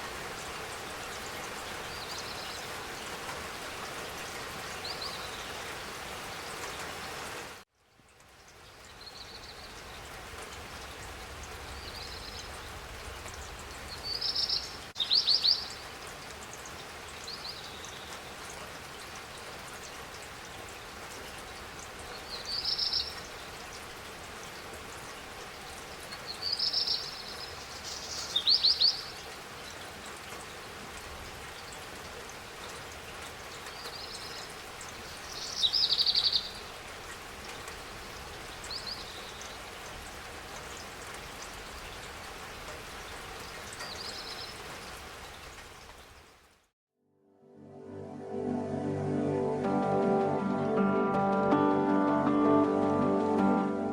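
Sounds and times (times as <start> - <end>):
rain falling: 0.0 - 46.7.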